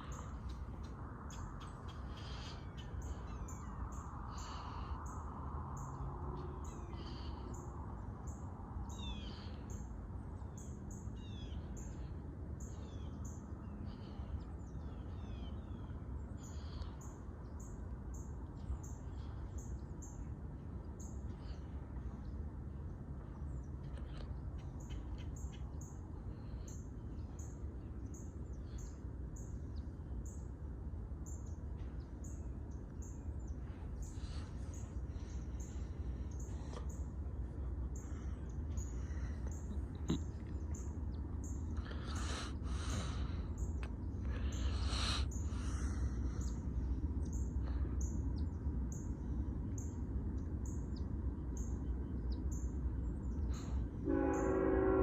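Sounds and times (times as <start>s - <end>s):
steady low rumble: 0.0s - 54.4s
birds chirping: 0.0s - 55.0s.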